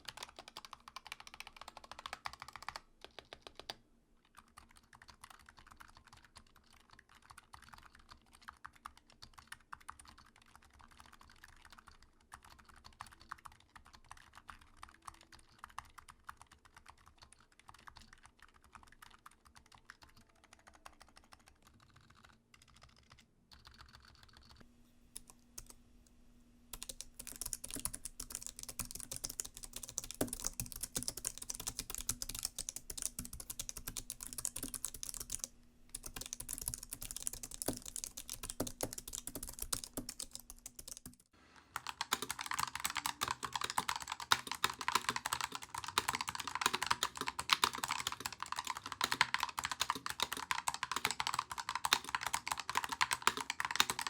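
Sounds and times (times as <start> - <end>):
mechanical keyboard typing: 0.0 - 24.6, 26.8 - 54.0.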